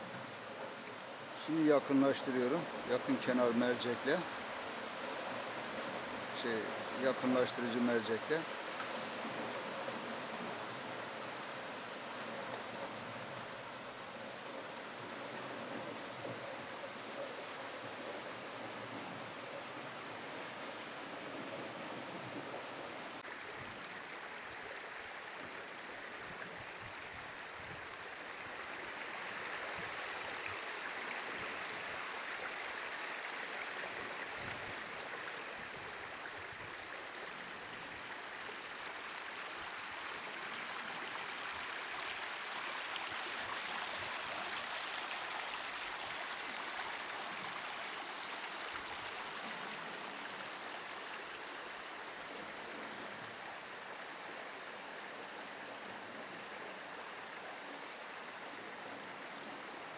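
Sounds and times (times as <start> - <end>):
stream flowing over rock: 0.0 - 59.9.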